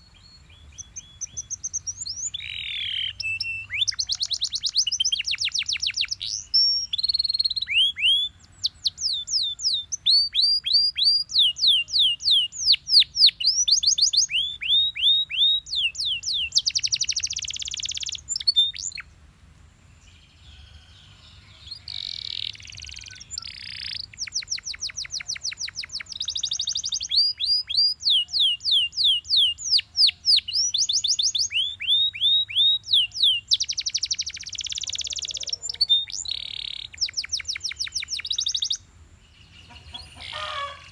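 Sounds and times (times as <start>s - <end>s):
canary singing trills: 0.0s - 19.1s, 20.1s - 40.9s.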